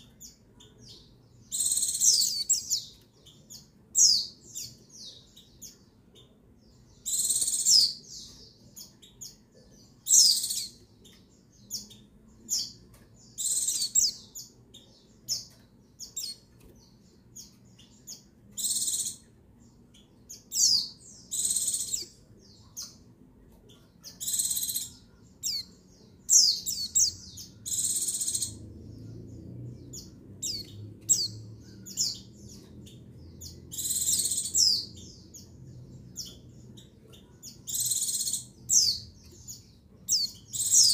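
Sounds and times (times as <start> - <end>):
bird chirps and trills: 0.0 - 40.9.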